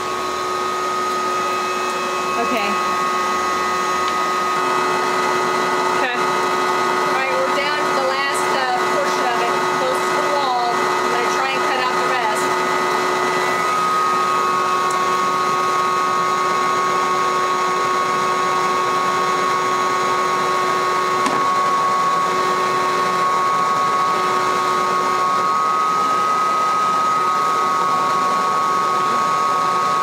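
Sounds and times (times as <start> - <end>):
vacuum whining: 0.0 - 30.0.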